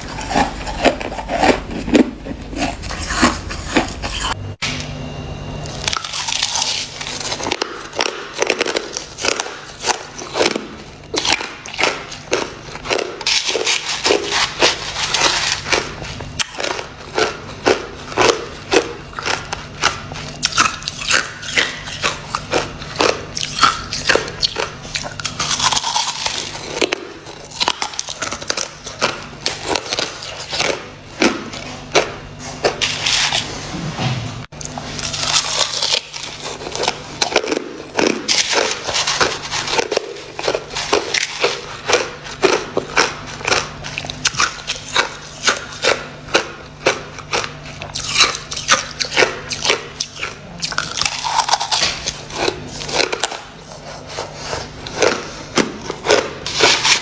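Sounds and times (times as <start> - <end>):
ice being chewed: 0.0 - 4.6, 5.6 - 33.5, 34.6 - 57.0.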